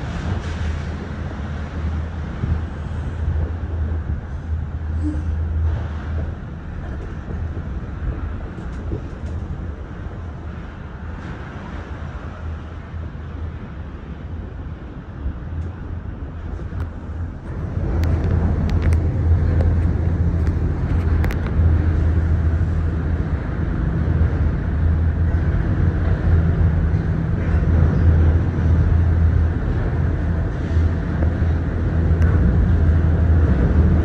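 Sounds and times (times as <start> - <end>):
gondola cabin rumble and hum: 0.0 - 34.0.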